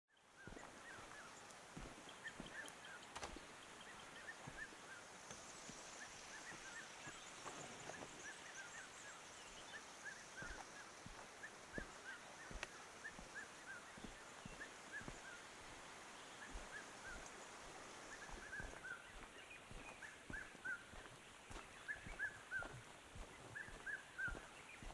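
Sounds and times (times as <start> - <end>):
birds chirping: 0.1 - 24.9
footsteps: 0.4 - 8.4, 10.3 - 24.9.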